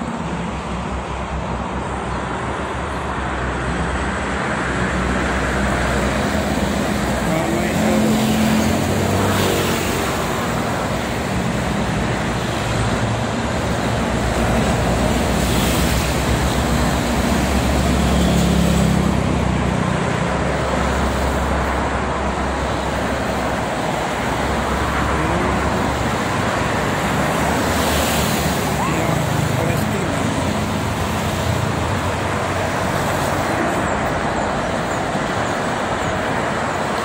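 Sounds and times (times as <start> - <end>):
highway traffic passing: 0.0 - 37.0.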